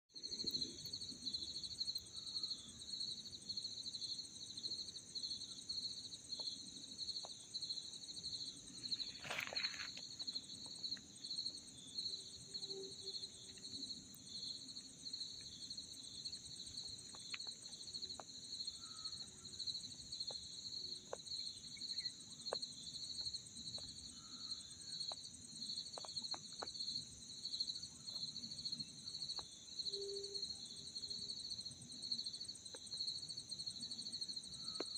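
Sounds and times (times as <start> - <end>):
insects chirring: 0.2 - 34.9.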